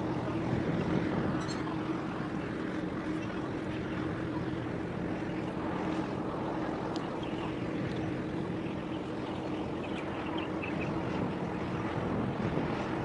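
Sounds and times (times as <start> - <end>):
harbour water noise: 0.0 - 13.0
ship engines droning: 0.0 - 13.0
wind: 0.0 - 13.0.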